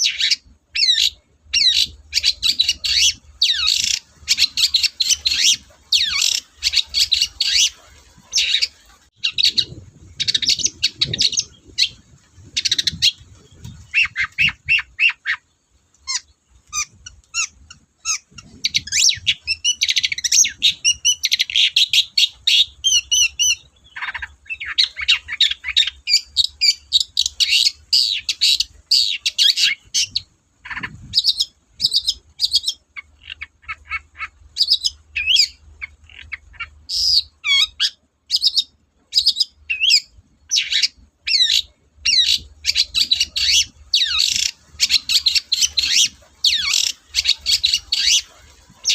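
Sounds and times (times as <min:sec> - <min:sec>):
shrike chattering song: 0:00.0 - 0:48.9.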